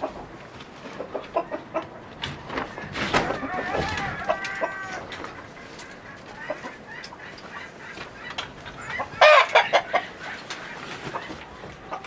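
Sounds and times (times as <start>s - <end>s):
chickens clucking: 0.0s - 12.0s
drawn-out hen call: 0.0s - 12.0s.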